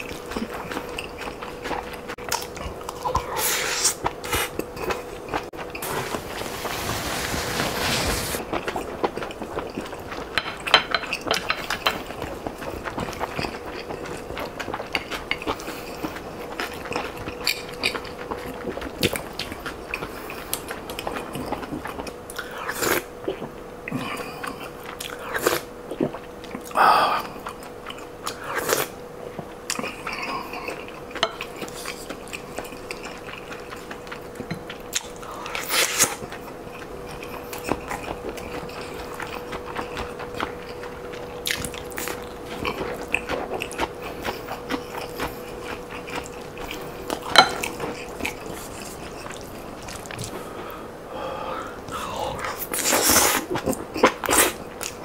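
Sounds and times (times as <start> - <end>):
chewing and biting food: 0.0 - 6.0, 8.4 - 50.5
faint steady hum: 0.0 - 55.0.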